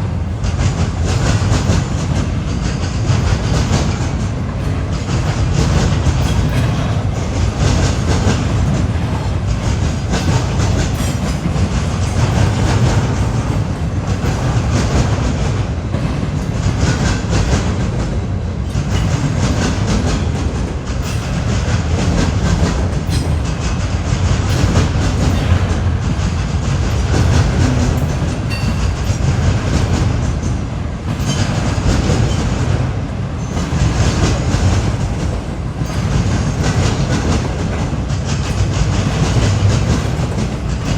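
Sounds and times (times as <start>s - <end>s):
train cars rolling past: 0.0s - 40.9s
wheels clicking over rail joints: 0.2s - 40.9s.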